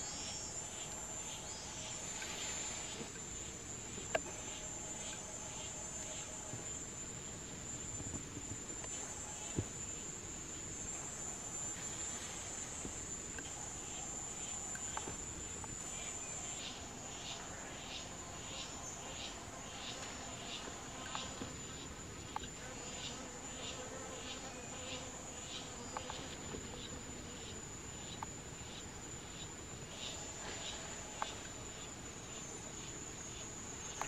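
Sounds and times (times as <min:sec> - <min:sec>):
insect high-pitched drone: 0:00.0 - 0:34.0
insect pulsed chirps: 0:00.0 - 0:34.0.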